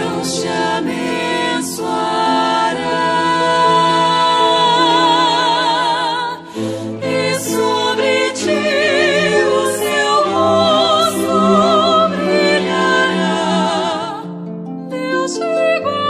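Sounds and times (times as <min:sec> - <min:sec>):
person singing with vibrato: 0:00.0 - 0:16.0
sustained accompaniment: 0:00.0 - 0:16.0.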